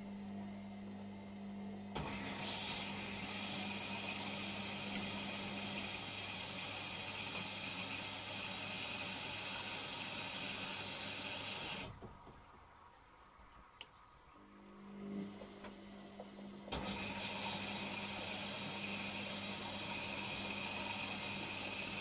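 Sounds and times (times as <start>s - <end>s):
water rushing into washing machine: 2.0s - 22.0s.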